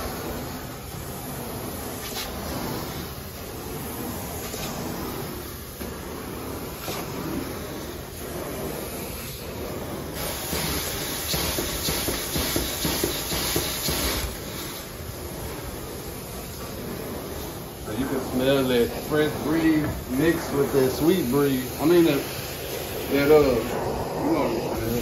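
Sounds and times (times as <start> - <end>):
rinse solution spraying: 0.0 - 25.0
vacuum suction hiss: 0.0 - 25.0.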